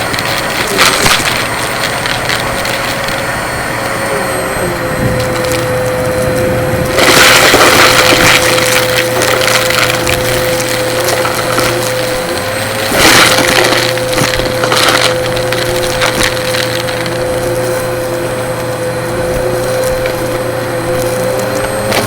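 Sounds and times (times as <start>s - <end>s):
debris crackling through vacuum: 0.0s - 22.0s
vacuum cleaner motor whine: 0.0s - 22.0s.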